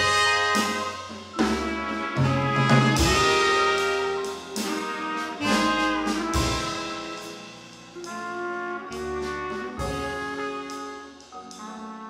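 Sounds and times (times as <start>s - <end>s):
piano chords: 0.0s - 12.0s
trumpet melody: 0.0s - 12.0s.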